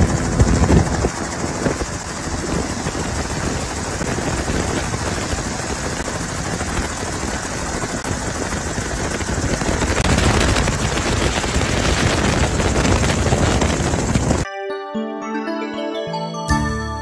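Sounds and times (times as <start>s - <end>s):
helicopter rotor and engine: 0.0s - 14.4s.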